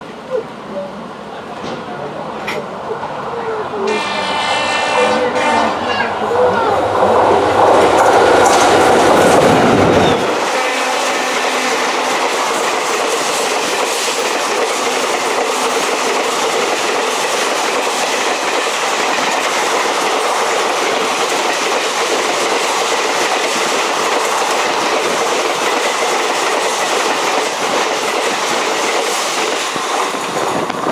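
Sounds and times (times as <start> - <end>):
train passing at speed: 0.0 - 30.9.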